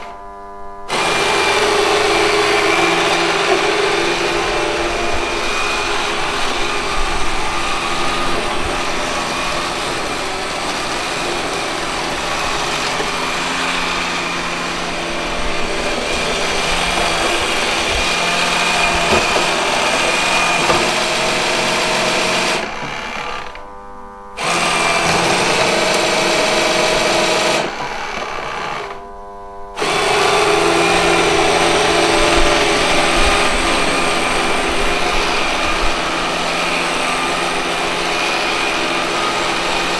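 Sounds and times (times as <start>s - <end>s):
robot vacuum cleaner running: 0.0s - 39.9s.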